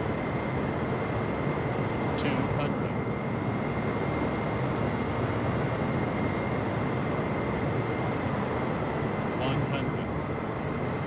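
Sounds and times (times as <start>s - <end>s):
high engine whine: 0.0s - 11.0s
jet engines rumbling: 0.0s - 11.0s.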